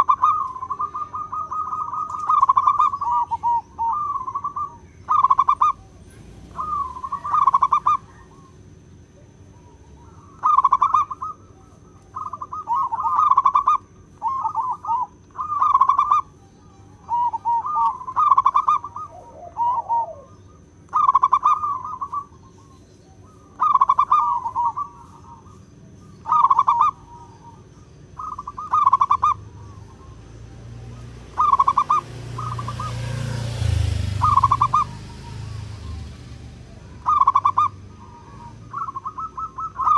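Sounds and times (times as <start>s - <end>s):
dove trilled cooing: 0.0s - 39.9s.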